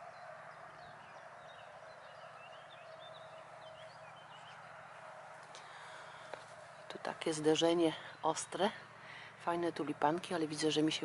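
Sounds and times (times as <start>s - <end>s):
faint steady hum: 0.0s - 11.0s
small birds chirping: 0.0s - 11.0s.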